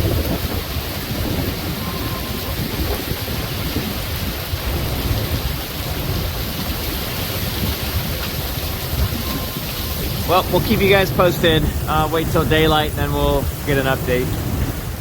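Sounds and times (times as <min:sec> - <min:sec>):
gusting wind rumble: 0:00.0 - 0:15.0
heavy rain pouring: 0:00.0 - 0:15.0.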